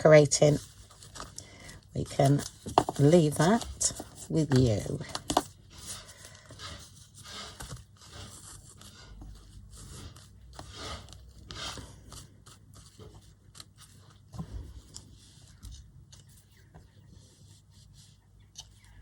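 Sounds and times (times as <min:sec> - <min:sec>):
paper rustling and scraping: 0:00.0 - 0:19.0.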